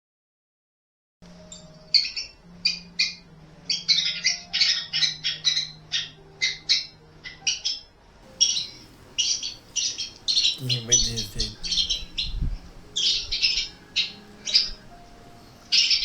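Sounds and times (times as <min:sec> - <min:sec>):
faint steady hum: 0:01.2 - 0:16.0
small birds chirping: 0:01.5 - 0:16.0.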